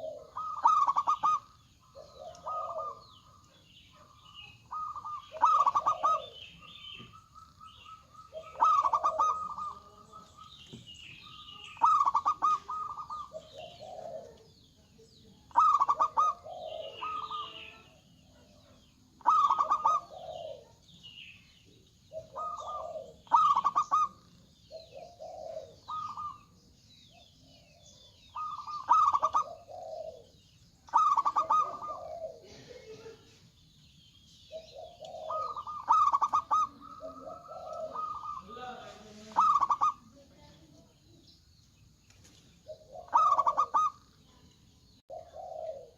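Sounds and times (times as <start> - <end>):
doves cooing: 0.0 - 41.3, 42.6 - 45.9
small birds chirping: 0.0 - 45.9.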